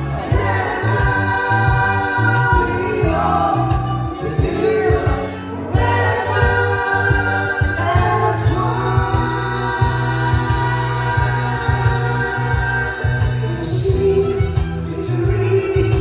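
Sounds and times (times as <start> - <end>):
song with several voices: 0.0 - 16.0.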